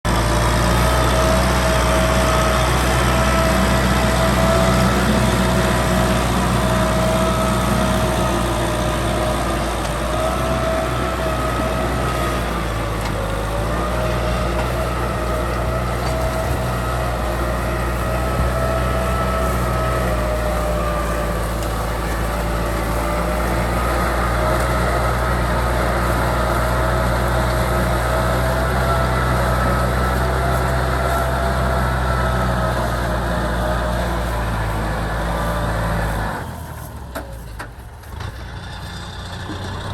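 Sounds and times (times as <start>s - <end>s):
engine whine: 0.0s - 39.9s
tractor diesel engine rumbling: 0.0s - 39.9s.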